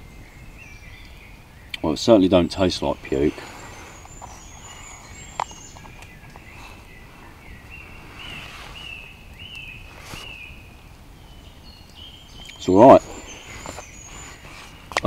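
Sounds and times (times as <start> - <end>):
bird singing: 0.0 - 15.0
steady low background hiss: 0.0 - 15.0.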